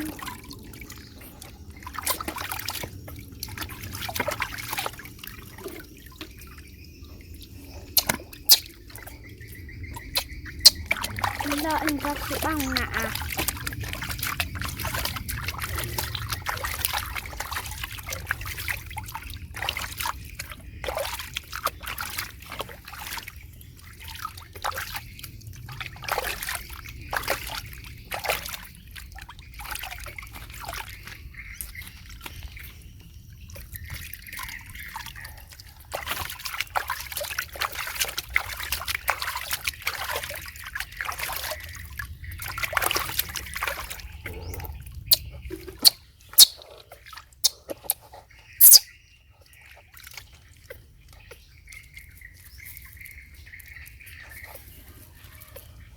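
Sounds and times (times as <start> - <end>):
water sloshing and splashing: 0.0 - 55.9.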